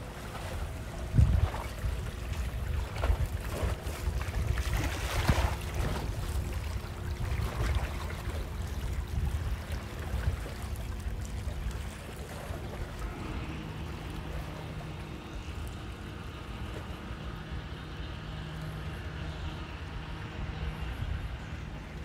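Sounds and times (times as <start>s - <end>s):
low motor drone: 0.0s - 22.0s
outdoor noise haze: 0.0s - 22.0s.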